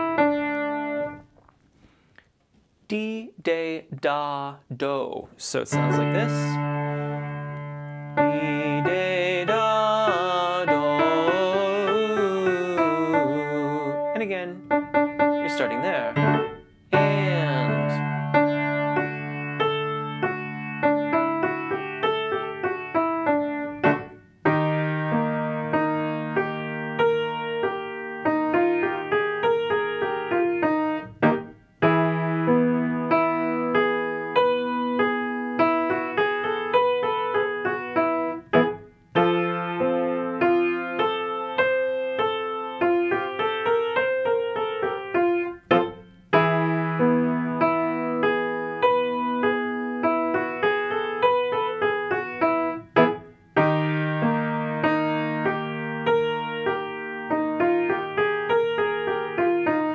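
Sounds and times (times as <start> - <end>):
piano chords and runs: 5.7 - 59.9.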